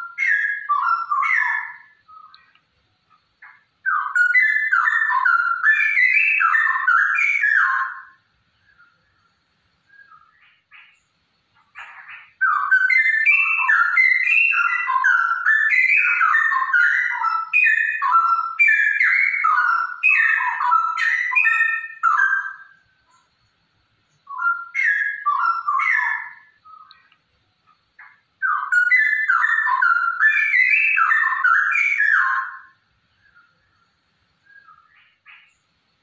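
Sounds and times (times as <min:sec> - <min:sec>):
bird singing whistled phrases: 0:00.0 - 0:02.5, 0:03.4 - 0:09.1, 0:09.9 - 0:11.0, 0:11.8 - 0:23.3, 0:24.1 - 0:27.1, 0:28.0 - 0:33.8, 0:34.4 - 0:35.6.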